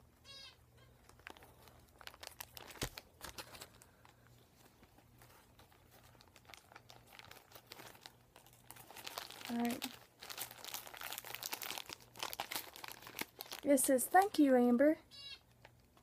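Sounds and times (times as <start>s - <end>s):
plastic bag crinkling: 0.4s - 16.0s.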